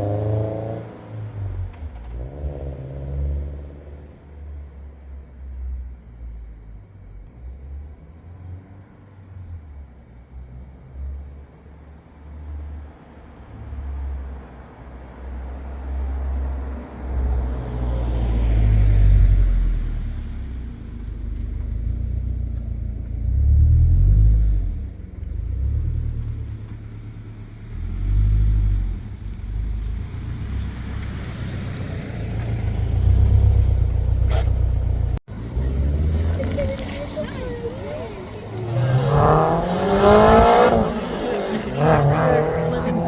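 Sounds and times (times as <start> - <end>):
car exhaust rumble accelerating: 0.0 - 43.0.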